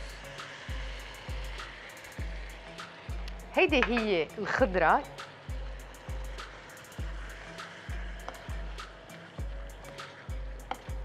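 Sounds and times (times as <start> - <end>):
music with low beat: 0.0 - 11.0.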